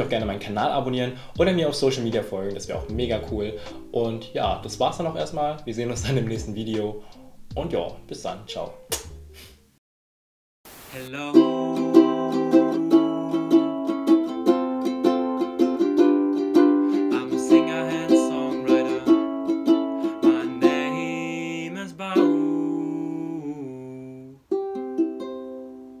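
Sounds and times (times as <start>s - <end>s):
ukulele picked and strummed: 0.0s - 9.2s, 11.3s - 26.0s.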